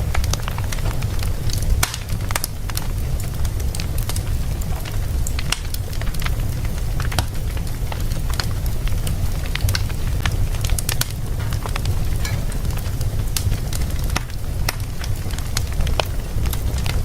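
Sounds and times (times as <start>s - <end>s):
low rumble: 0.0s - 16.9s
fire crackling and popping: 0.0s - 17.0s.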